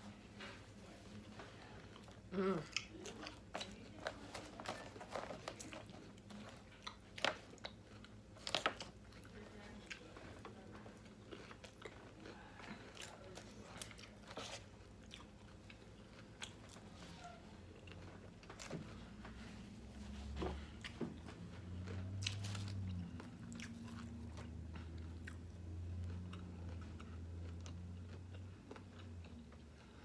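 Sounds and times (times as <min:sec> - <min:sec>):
crunchy salad chewing: 0:01.2 - 0:19.0, 0:20.8 - 0:30.0.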